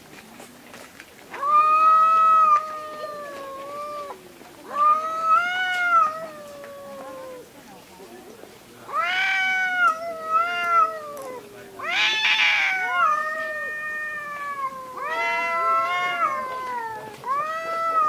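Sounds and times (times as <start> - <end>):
cats yowling: 1.3 - 7.5, 8.9 - 18.0.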